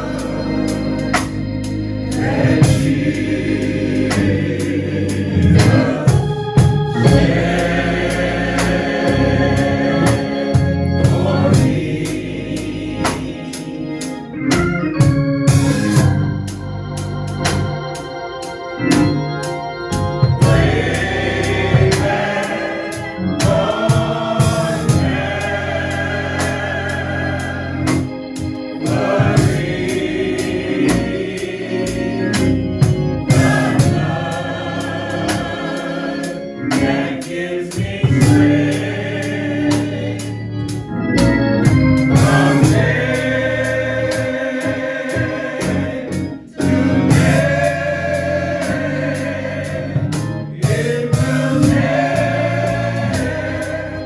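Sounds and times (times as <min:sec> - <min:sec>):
choir singing gospel: 0:00.0 - 0:54.0
organ accompaniment: 0:00.0 - 0:54.0.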